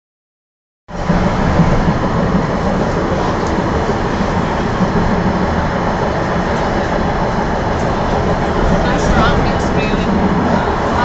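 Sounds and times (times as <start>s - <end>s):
tram wheels rolling on rails: 0.9s - 11.0s.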